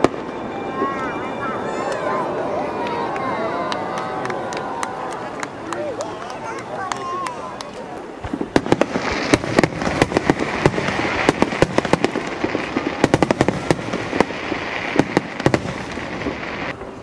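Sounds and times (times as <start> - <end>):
continuous hiss: 0.0 - 17.0.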